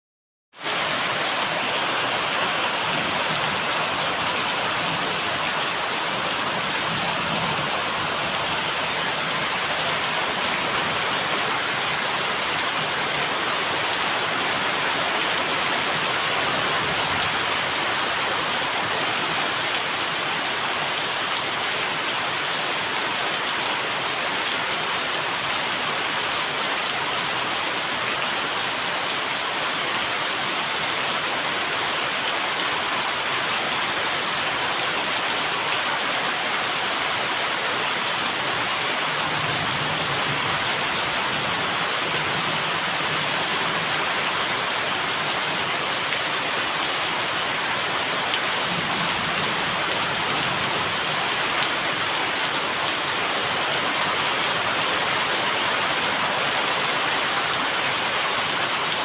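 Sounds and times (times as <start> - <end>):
rain falling: 0.6 - 59.0.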